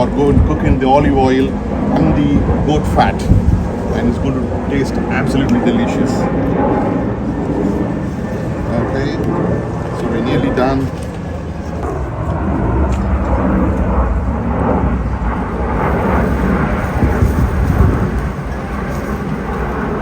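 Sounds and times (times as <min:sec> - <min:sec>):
loud steady rumbling: 0:00.0 - 0:20.0.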